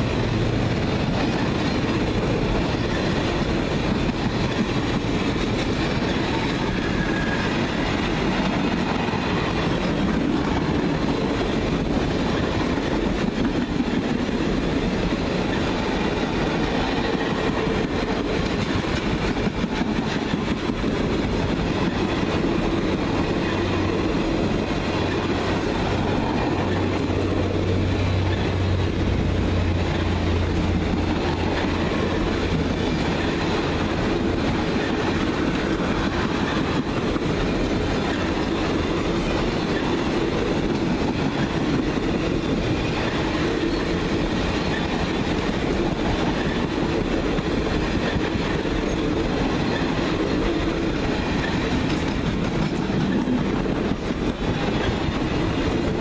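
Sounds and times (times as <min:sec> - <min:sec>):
train wheels rolling on rails: 0:00.0 - 0:56.0.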